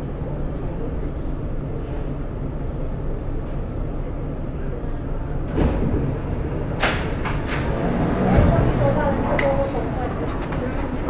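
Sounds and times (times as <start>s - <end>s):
low hum inside train: 0.0s - 11.0s.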